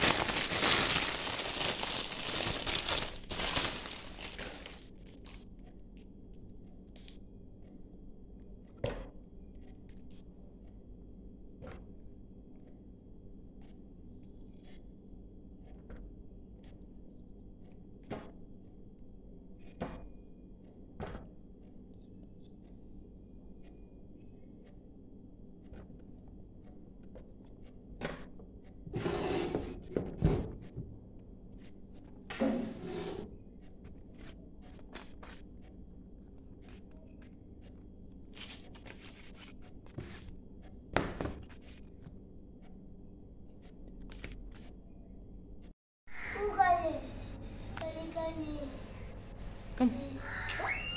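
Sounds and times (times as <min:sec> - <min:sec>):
low steady hum: 0:00.0 - 0:50.4.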